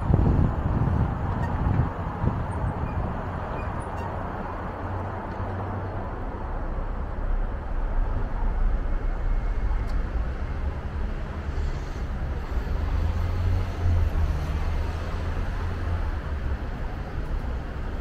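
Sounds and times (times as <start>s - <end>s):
passing vehicles humming: 0.0s - 18.0s.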